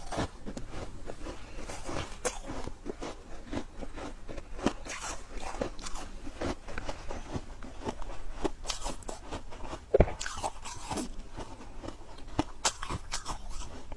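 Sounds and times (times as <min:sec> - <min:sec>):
frost being chewed crunching: 0:00.0 - 0:13.9.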